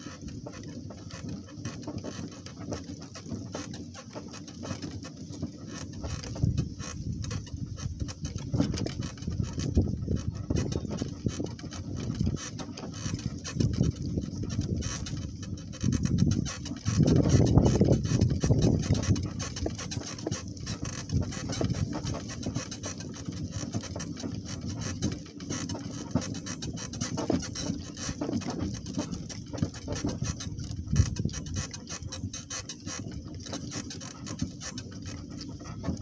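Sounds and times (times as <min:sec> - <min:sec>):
donkey hooves: 0:00.0 - 0:36.0.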